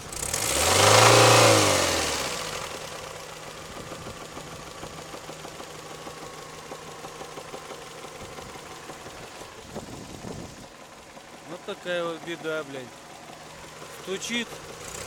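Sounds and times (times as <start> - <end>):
car engine idling: 0.0 - 15.0
engine knocking: 0.0 - 15.0.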